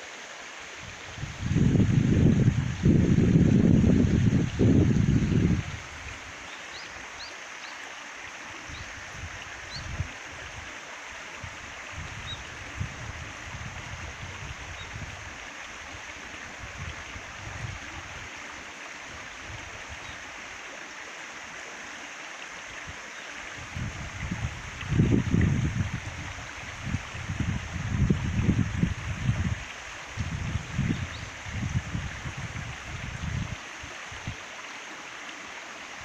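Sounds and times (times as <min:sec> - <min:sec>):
stream flowing over gravel: 0:00.0 - 0:36.0.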